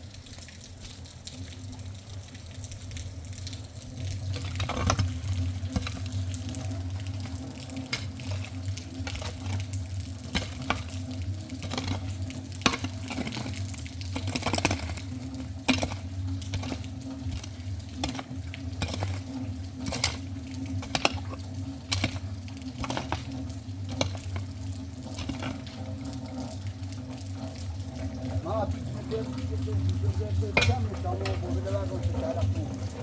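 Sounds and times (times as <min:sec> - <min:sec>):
rain pattering: 0:00.0 - 0:33.0
steady low hum: 0:01.6 - 0:33.0
drops tapping: 0:03.4 - 0:33.0.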